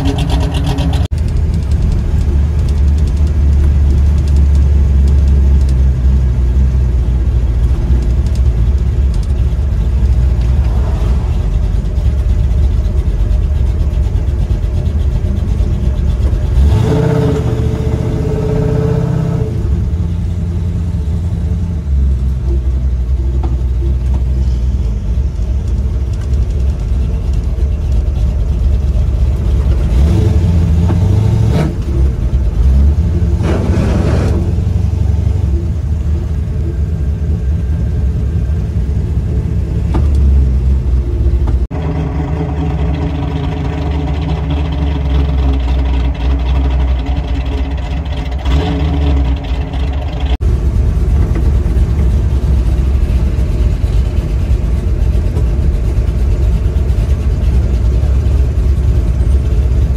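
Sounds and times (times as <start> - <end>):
pickup truck engine running: 0.0 - 59.9.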